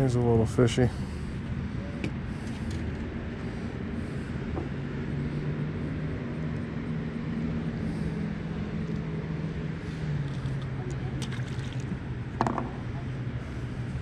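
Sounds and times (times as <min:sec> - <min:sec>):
distant motor vehicle drone: 0:00.0 - 0:14.0.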